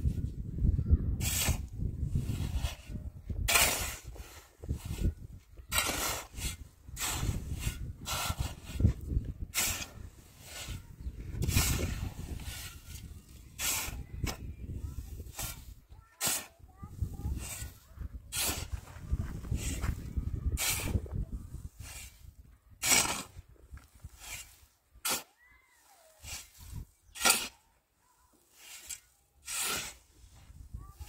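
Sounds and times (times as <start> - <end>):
shovel scraping cement mix: 1.2 - 31.0.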